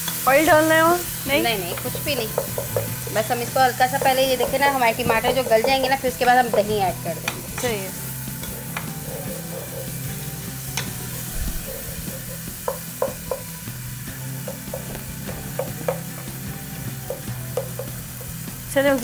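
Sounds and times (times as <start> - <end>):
sauce cooking in a pot: 0.0 - 19.0
wooden spoon knocking pot: 1.4 - 7.8, 8.4 - 13.5, 14.4 - 18.4.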